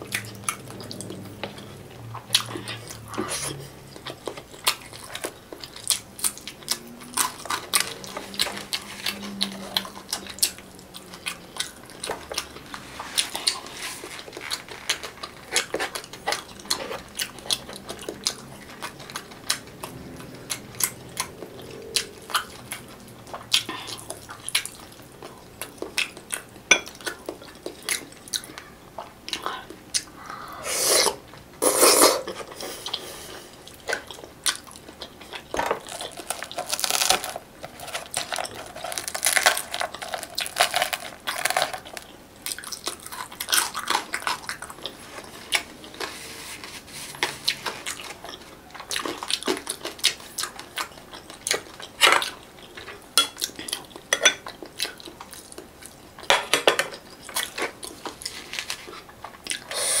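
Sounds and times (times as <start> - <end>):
chewing and mouth sounds: 0.0 - 31.6, 32.2 - 46.4, 47.1 - 60.0.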